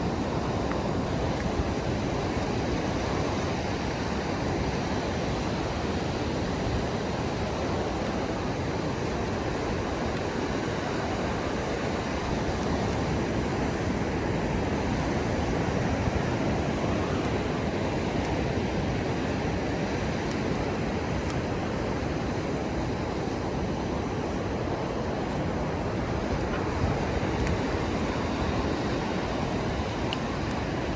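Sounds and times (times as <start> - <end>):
ocean surf: 0.0 - 30.9
wind: 0.0 - 30.9.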